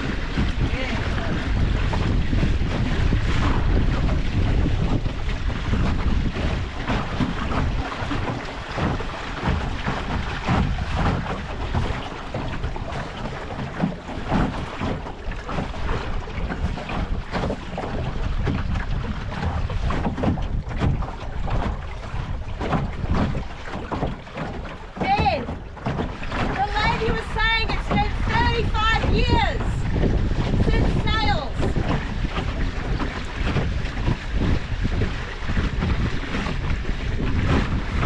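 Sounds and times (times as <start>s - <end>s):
water splashing along boat hull: 0.0s - 38.0s
wind buffeting microphone: 0.0s - 38.0s.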